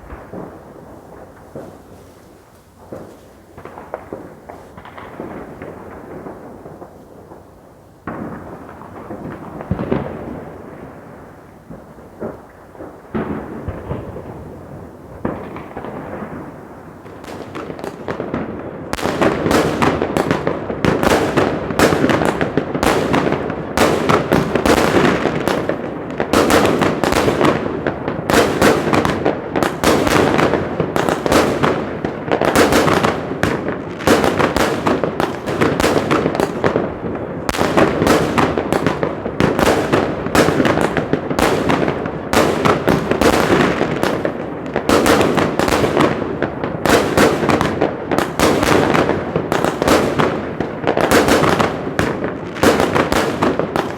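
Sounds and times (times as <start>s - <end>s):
fireworks bangs and crackle: 0.0s - 53.9s.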